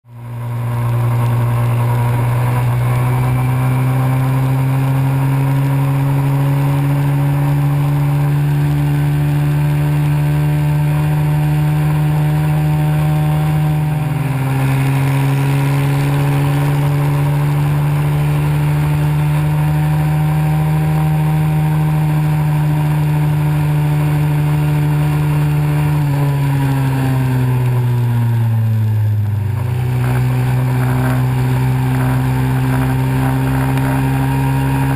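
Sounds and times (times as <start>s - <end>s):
pit bike engine running: 0.0s - 34.9s.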